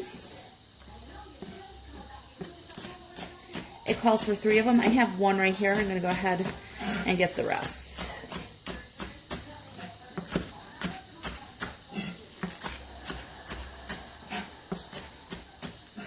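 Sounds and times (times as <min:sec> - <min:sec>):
knife chopping on cutting board: 0:02.4 - 0:05.0, 0:05.6 - 0:16.0.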